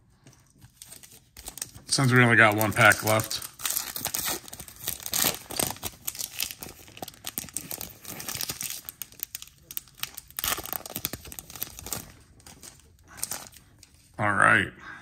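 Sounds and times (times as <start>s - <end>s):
foil wrapper tearing and crinkling: 0.7s - 13.6s.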